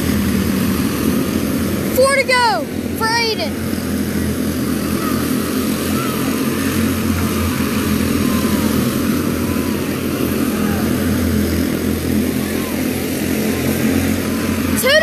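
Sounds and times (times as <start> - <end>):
small race car engines buzzing: 0.0 - 15.0.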